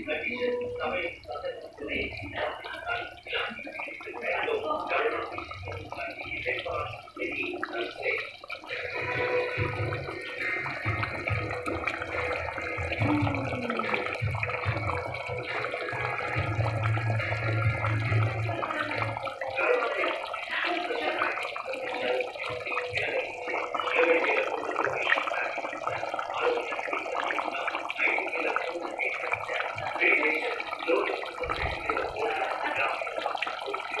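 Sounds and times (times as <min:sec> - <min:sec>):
bubbling liquid: 0:00.0 - 0:34.0.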